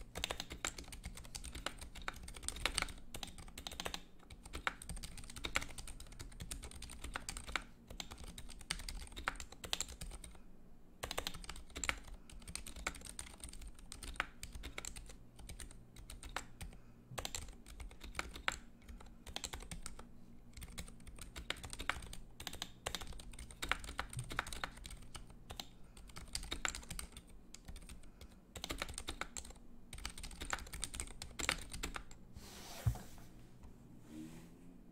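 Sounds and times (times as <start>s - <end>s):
soft mechanical keyboard typing: 0.0s - 10.4s, 11.0s - 32.2s.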